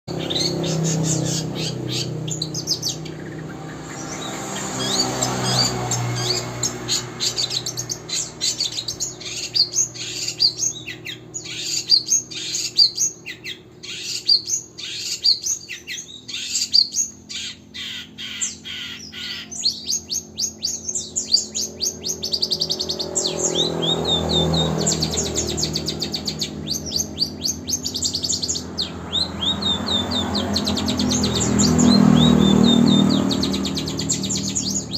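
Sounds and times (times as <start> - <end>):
bird singing rapid trills: 0.1 - 34.9.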